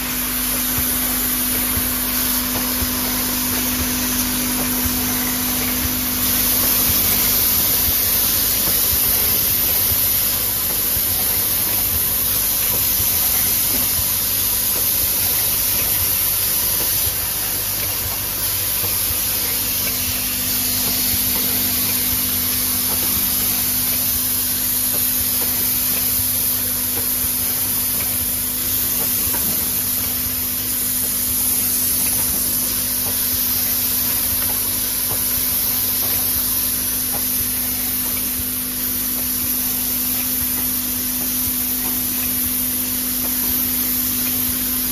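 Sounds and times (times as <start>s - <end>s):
low machine hum: 0.0s - 44.9s
machine hissing: 0.0s - 44.9s.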